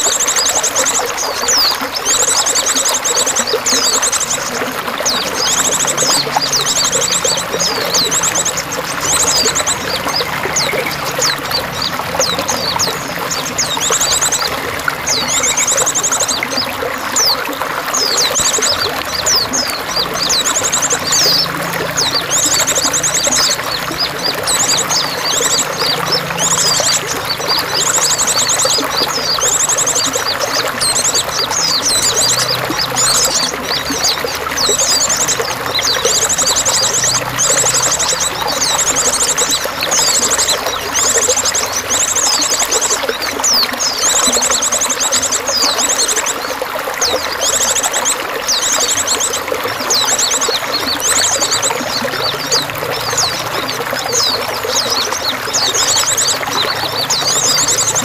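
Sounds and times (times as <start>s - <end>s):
songbirds chirping: 0.0s - 58.0s
water running and splashing: 0.0s - 58.0s.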